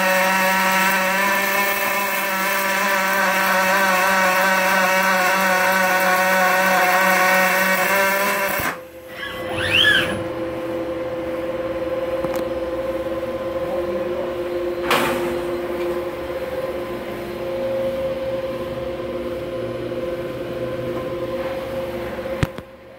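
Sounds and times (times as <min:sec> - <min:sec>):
welding machine hum: 0:00.0 - 0:13.6, 0:15.4 - 0:22.9.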